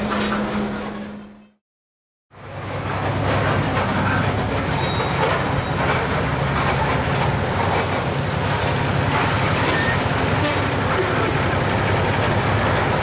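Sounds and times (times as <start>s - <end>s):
train wheels rumbling on rails: 2.3s - 13.0s.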